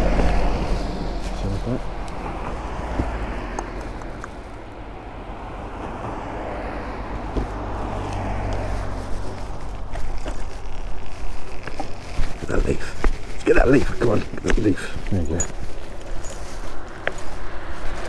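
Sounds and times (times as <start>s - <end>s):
passing road traffic: 0.0s - 18.0s.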